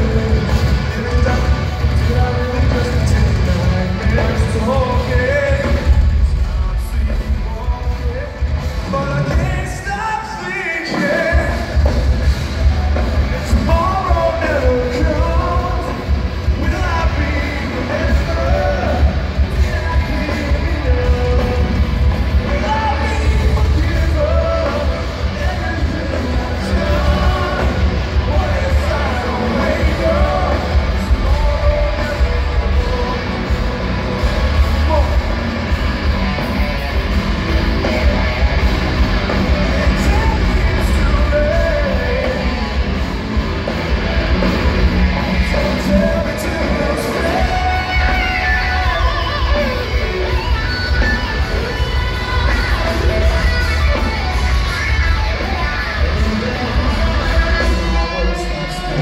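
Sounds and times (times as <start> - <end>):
person singing: 0.0 - 35.7, 36.3 - 59.0
heavy rock band playing: 0.0 - 59.0.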